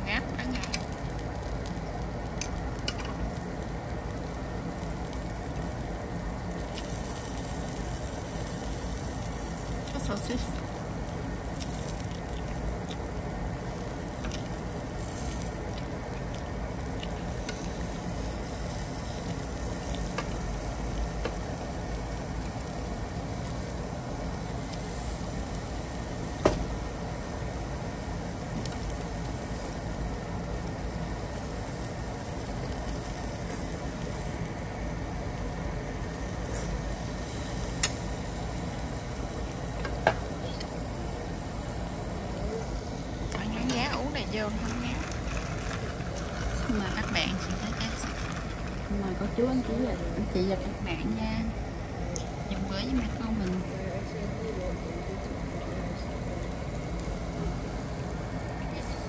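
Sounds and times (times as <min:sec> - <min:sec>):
food sizzling on a grill: 0:00.0 - 0:59.0.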